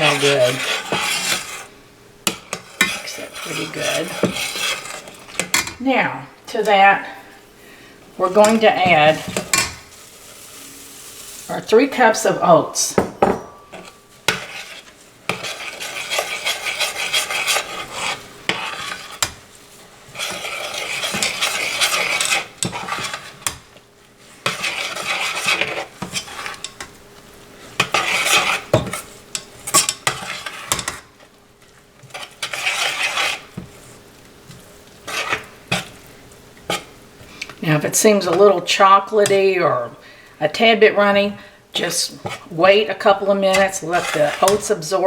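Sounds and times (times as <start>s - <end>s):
utensil scraping a pan: 0.0s - 5.8s, 8.2s - 27.0s, 27.6s - 39.9s, 41.8s - 45.0s.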